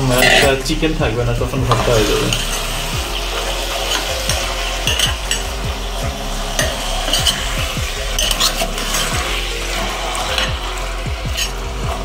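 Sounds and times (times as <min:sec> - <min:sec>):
food sizzling in a pan: 0:00.0 - 0:12.0
utensil stirring food: 0:01.6 - 0:12.0.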